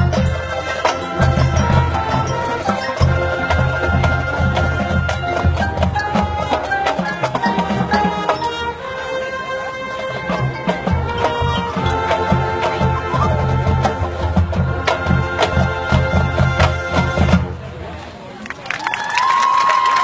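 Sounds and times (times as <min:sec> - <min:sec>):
drums and percussion strikes: 0:00.0 - 0:08.8, 0:10.2 - 0:17.6
marching band playing: 0:00.0 - 0:17.9.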